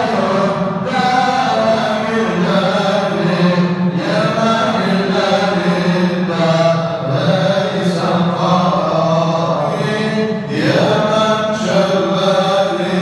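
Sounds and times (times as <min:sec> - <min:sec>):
man chanting into microphone: 0:00.0 - 0:13.0.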